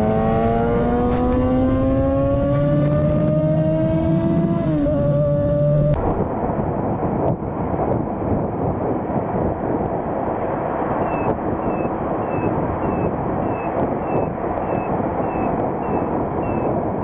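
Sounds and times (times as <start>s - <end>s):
motorcycle cruising at speed: 0.0s - 17.0s
wind rushing over microphone: 0.0s - 17.0s.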